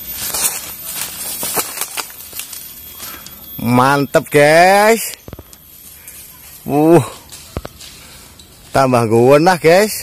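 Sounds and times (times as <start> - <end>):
bamboo rustling and crackling: 0.0 - 10.0.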